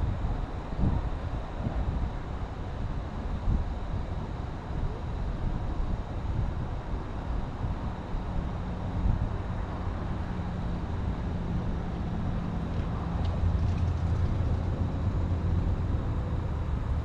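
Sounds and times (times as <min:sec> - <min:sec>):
diesel train engine humming: 0:00.0 - 0:17.0.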